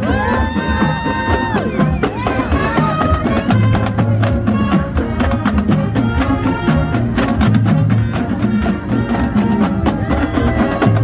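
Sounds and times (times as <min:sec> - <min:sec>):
music with steady drum beat: 0:00.0 - 0:11.0.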